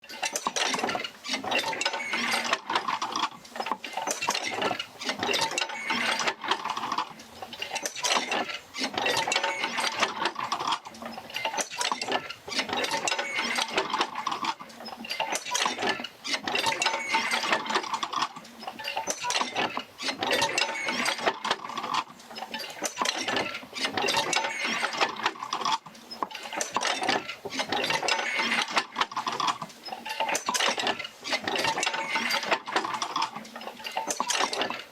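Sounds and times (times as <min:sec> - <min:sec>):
field wheel clanking and knocking: 0:00.0 - 0:34.9.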